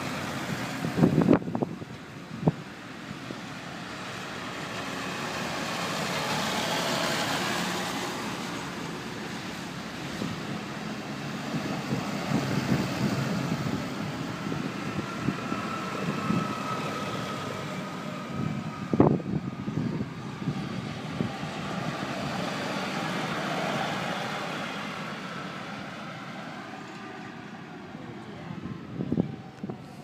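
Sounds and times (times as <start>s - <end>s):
tractor diesel engines: 0.0s - 30.0s.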